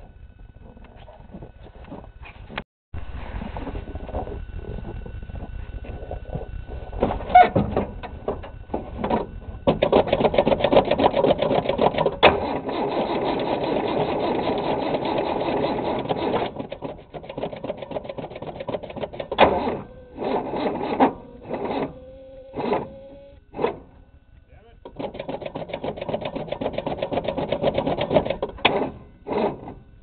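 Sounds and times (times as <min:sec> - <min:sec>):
engine cranking by starter: 0:03.0 - 0:30.0.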